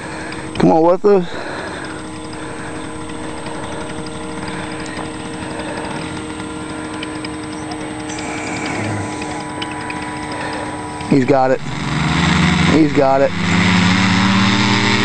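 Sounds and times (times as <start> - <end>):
paramotor engine running: 0.0 - 15.0.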